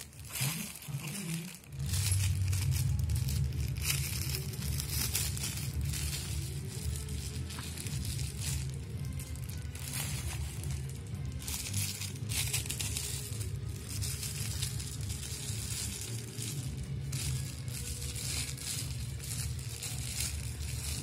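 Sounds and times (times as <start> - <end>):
background music: 0.0 - 21.0
plastic wrapping crinkling: 0.0 - 21.0.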